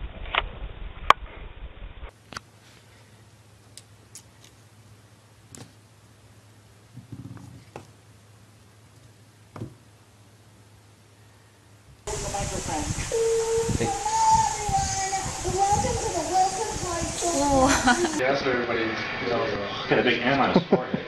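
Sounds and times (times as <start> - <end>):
low steady hum: 0.2 - 20.2.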